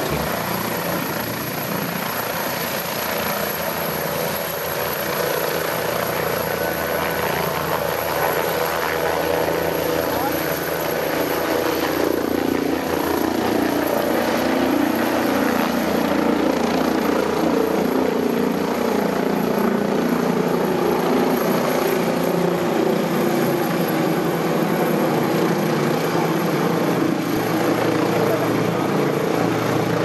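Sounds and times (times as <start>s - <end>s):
helicopter rotors and turbines: 0.0s - 30.0s.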